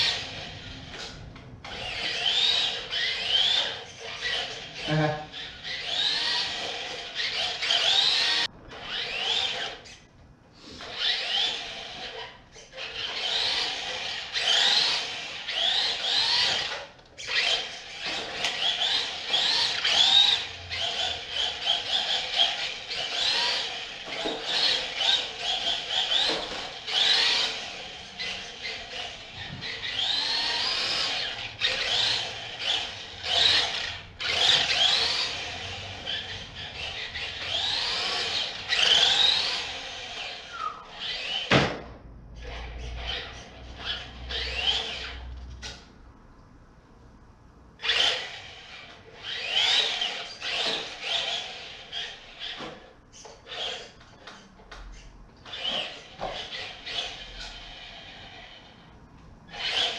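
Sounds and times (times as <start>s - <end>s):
rc car motor whining: 0.0s - 41.6s, 42.4s - 45.9s, 47.8s - 58.8s, 59.5s - 59.9s.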